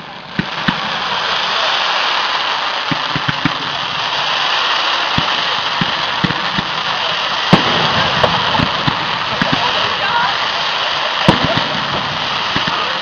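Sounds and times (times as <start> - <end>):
firework bursts thumping: 0.0 - 13.0
fireworks crackling: 0.0 - 13.0.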